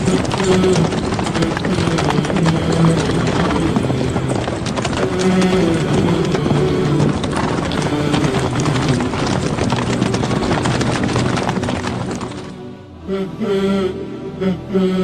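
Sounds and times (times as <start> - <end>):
horse hoofbeats clattering: 0.0 - 12.7
music: 0.0 - 15.0.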